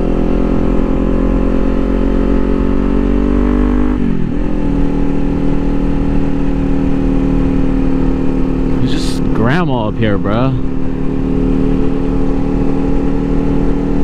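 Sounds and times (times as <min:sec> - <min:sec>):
motorcycle engine while riding: 0:00.0 - 0:14.0.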